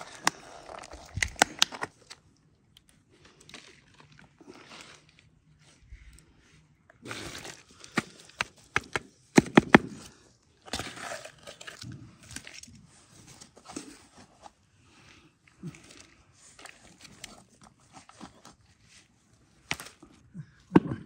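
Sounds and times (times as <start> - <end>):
hands rustling soil: 2.8 - 20.5.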